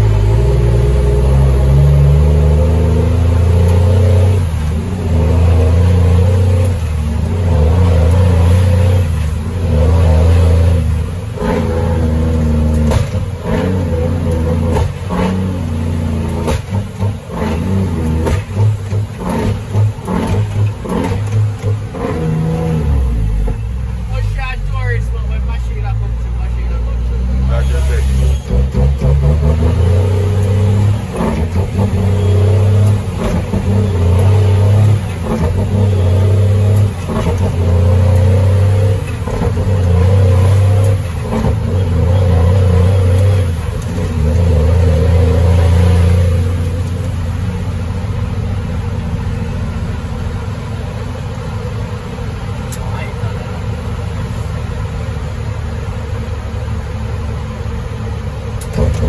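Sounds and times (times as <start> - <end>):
diesel truck engine: 0.0 - 59.0.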